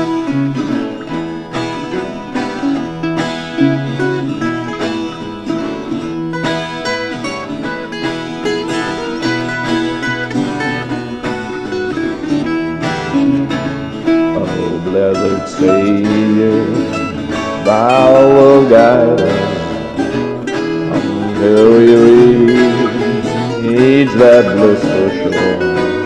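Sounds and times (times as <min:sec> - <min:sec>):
bluegrass gospel instrumental: 0:00.0 - 0:26.0
picked acoustic guitar: 0:00.0 - 0:26.0
plucked strings: 0:00.0 - 0:26.0.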